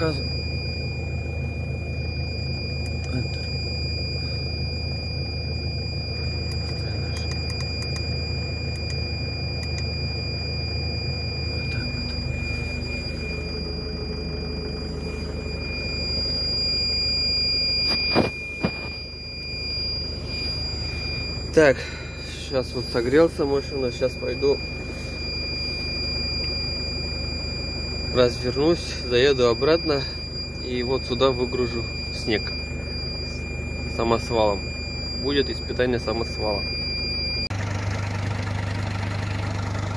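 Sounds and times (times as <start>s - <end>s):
diesel engine idling: 0.0s - 39.9s
high-pitched whine: 0.0s - 39.9s.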